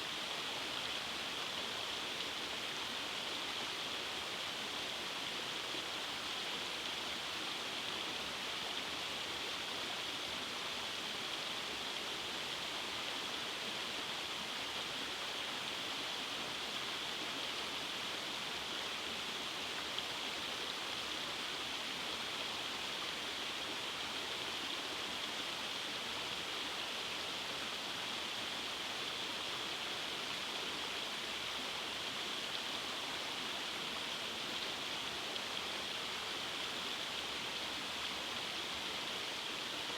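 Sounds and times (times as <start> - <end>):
stream rushing over cascades: 0.0 - 39.9.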